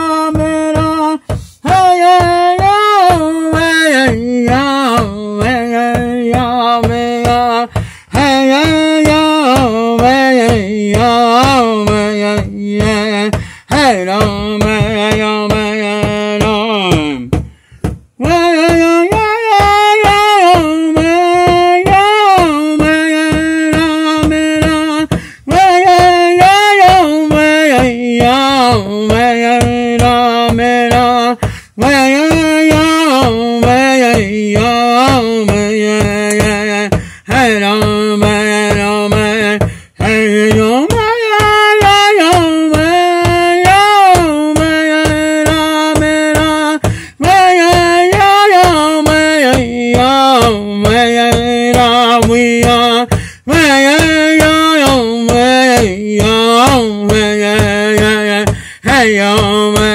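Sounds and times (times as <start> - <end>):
song over a steady beat: 0.0 - 59.9.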